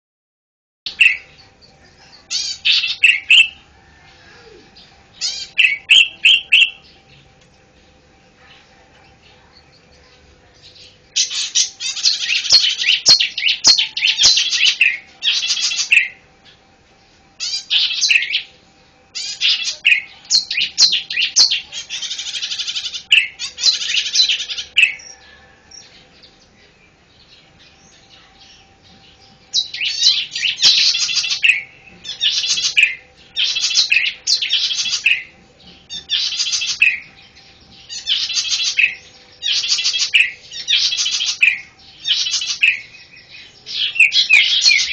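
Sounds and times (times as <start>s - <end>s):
bird singing high chattering phrases: 0.9s - 44.9s.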